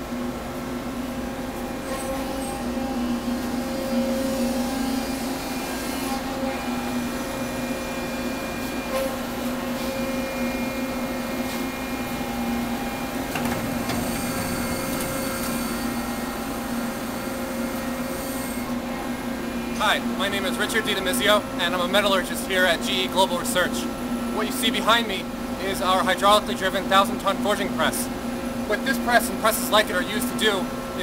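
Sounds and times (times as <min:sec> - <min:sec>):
industrial machinery humming: 0:00.0 - 0:31.0.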